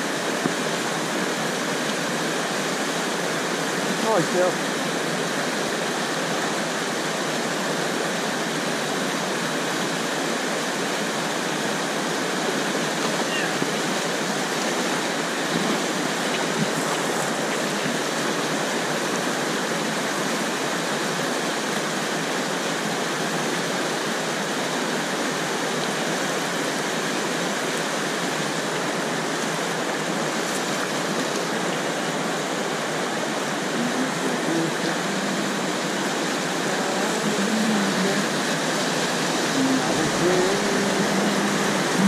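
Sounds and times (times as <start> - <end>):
whitewater rapids rushing: 0.0 - 42.0.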